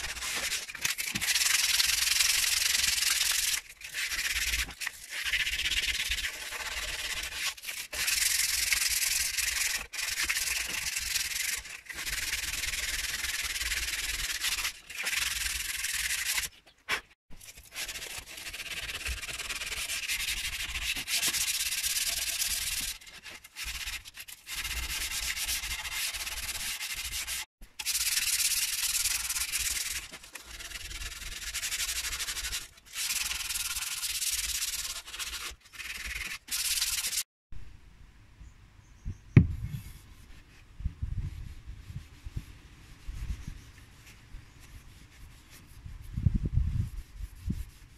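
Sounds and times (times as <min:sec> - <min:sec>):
sandpaper rubbing on wood: 0:00.0 - 0:37.2, 0:41.4 - 0:47.9.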